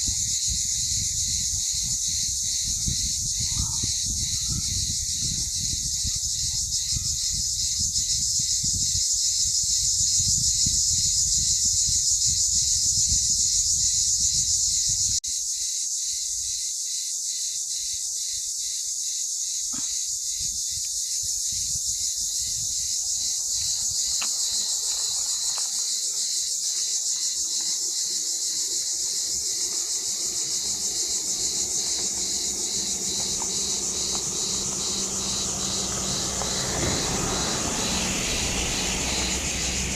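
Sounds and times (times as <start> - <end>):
insects chorus pulsing: 0.0 - 39.9.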